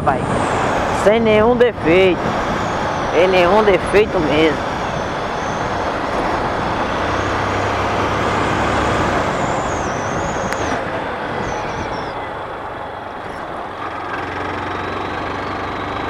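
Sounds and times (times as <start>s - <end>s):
motorcycle engine: 0.0s - 16.0s
wind rush on microphone: 0.0s - 16.0s.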